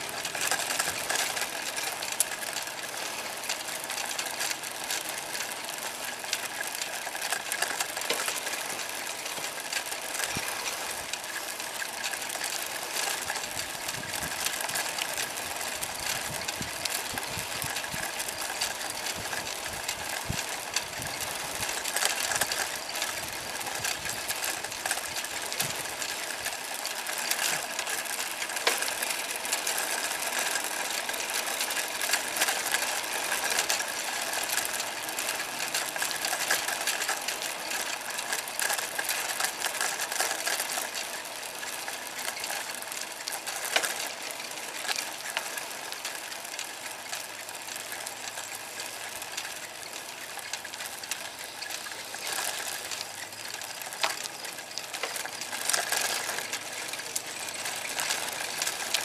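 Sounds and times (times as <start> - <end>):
bicycle rattling and clicking: 0.0 - 59.0.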